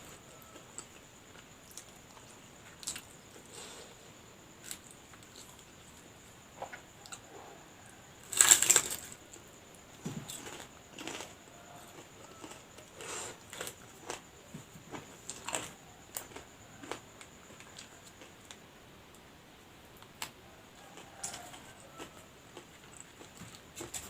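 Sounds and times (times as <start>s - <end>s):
crunching and chewing: 0.1s - 3.8s, 4.6s - 19.2s, 20.0s - 24.0s.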